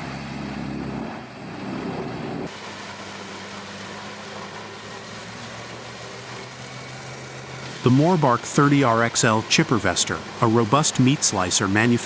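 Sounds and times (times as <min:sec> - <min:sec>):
engine drone: 0:00.0 - 0:12.0
heavy machinery rumbling: 0:00.0 - 0:12.0.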